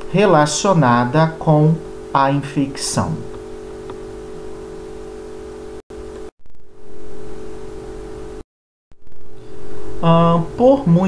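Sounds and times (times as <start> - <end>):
multi-tone background hum: 0.0 - 8.4, 9.1 - 11.0.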